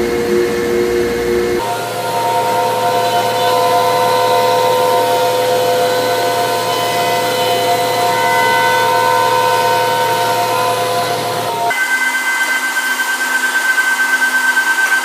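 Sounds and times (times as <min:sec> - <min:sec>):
router spindle whine: 0:00.0 - 0:15.0.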